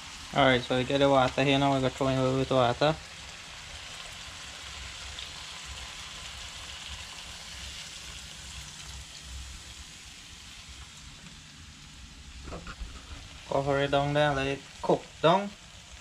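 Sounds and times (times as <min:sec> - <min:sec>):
water hissing in hot pan: 0:00.0 - 0:16.0.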